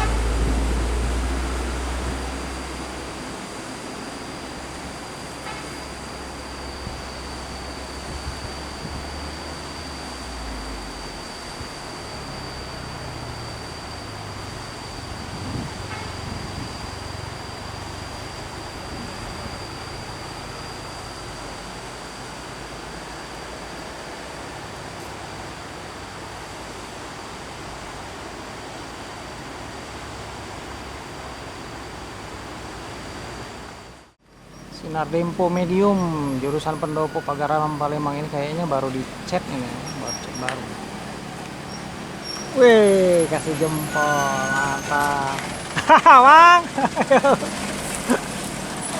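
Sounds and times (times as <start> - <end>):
vehicle engine humming: 0.0 - 27.9, 29.8 - 48.9
high steady whine: 0.0 - 48.9
outdoor hiss: 0.0 - 48.9.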